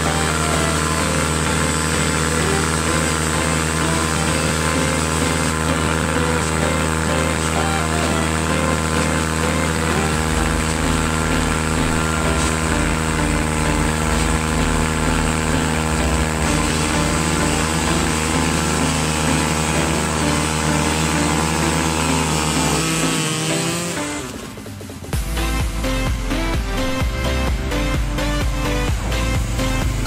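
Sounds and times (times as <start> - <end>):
quad engine at high revs: 0.0 - 30.0
tyres spinning on road: 0.0 - 30.0.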